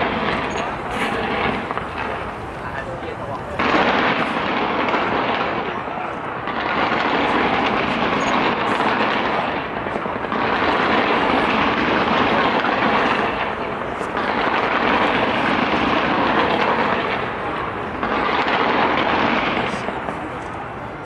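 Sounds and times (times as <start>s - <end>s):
crowd voices: 0.0s - 21.0s
fireworks crackling and bursting: 0.0s - 21.0s.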